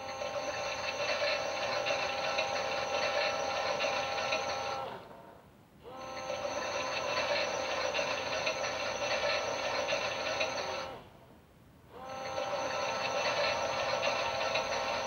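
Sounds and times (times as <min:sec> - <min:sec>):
toy washing machine motor whine: 0:00.0 - 0:05.1, 0:05.9 - 0:11.0, 0:11.9 - 0:15.0.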